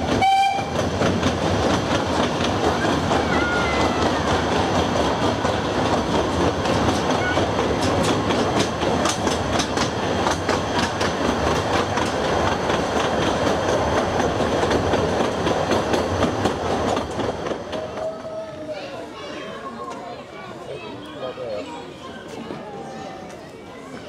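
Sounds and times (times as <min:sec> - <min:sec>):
wheels rumbling on rail: 0:00.0 - 0:20.7.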